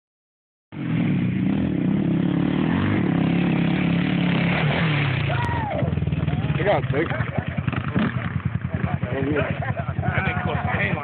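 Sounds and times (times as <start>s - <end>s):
atv engines running: 0.8s - 11.0s.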